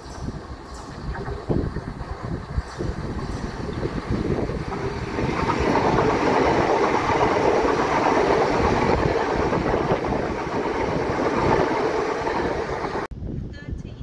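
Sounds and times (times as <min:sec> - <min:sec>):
train wheels rumbling on rails: 0:00.0 - 0:13.1.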